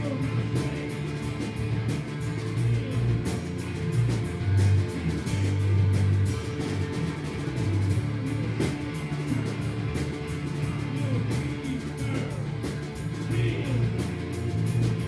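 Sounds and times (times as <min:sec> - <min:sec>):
bass notes: 0:00.0 - 0:15.0
drum hits: 0:00.0 - 0:15.0
electric guitar: 0:00.0 - 0:15.0.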